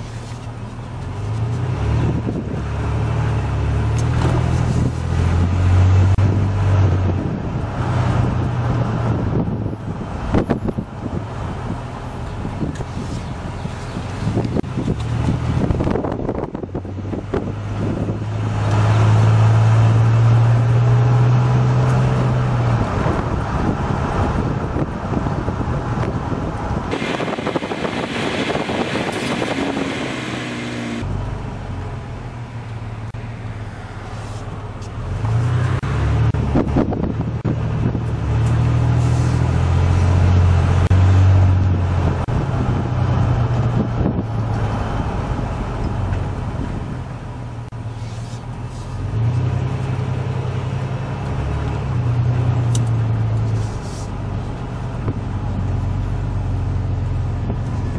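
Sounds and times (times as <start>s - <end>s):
truck engine driving: 0.0s - 57.9s.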